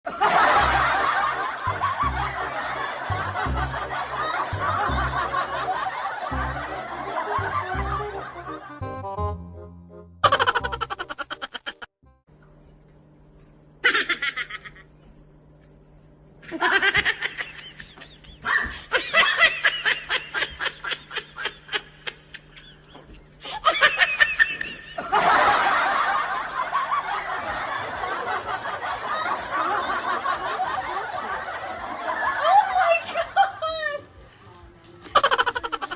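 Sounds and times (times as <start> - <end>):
laughter: 0.1 - 8.7, 10.2 - 11.9, 13.8 - 14.9, 16.4 - 34.1, 35.0 - 35.9.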